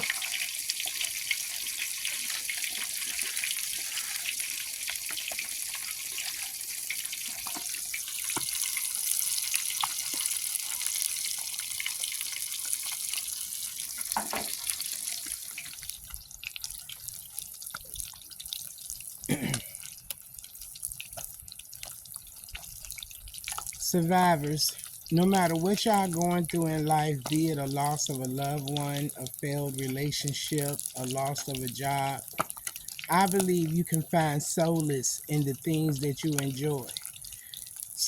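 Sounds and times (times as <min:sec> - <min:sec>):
fish deep-frying in hot oil: 0:00.0 - 0:38.0.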